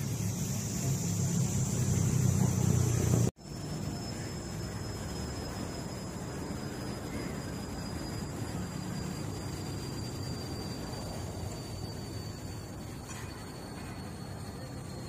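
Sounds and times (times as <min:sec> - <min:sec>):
faint high whine: 0:00.0 - 0:15.0
low rumble with hiss: 0:00.0 - 0:15.0.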